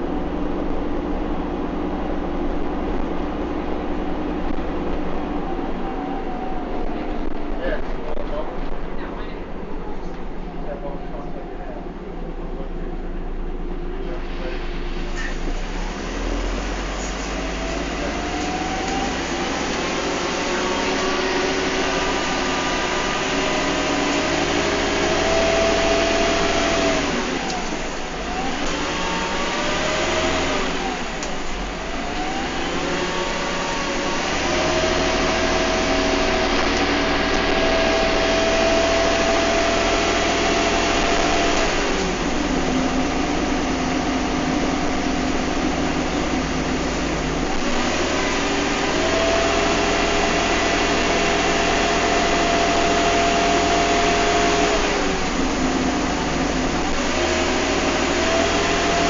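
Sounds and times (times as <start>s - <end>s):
bus engine and transmission whine: 0.0s - 59.0s.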